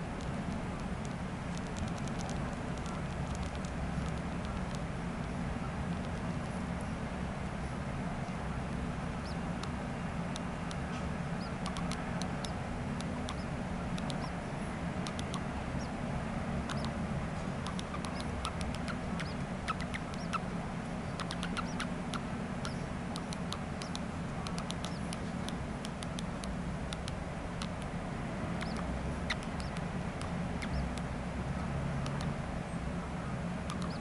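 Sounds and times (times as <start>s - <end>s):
baby birds chirping: 0.1s - 4.8s, 9.1s - 27.9s, 28.5s - 32.4s, 33.6s - 34.0s.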